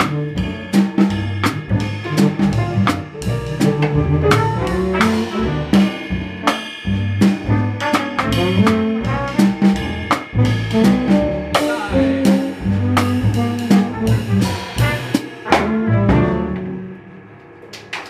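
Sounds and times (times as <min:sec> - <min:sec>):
jazz band playing: 0:00.0 - 0:17.6
drum accents: 0:00.0 - 0:18.0.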